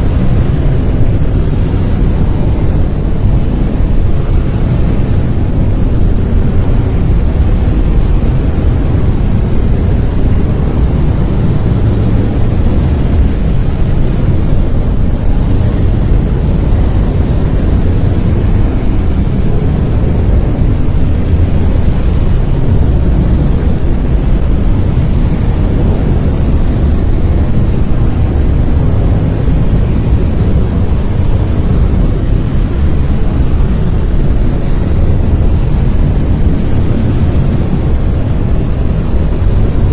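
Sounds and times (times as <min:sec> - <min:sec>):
deep rushing brown noise: 0:00.0 - 0:39.9.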